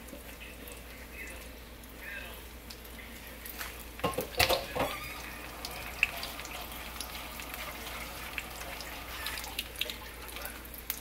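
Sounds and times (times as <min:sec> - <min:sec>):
food sizzling in hot oil: 0:01.9 - 0:11.0.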